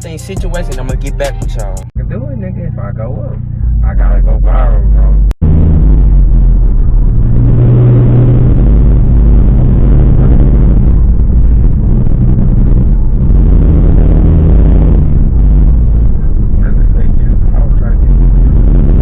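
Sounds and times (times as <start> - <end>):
car engine rumble: 0.0 - 19.0
road noise: 0.0 - 19.0.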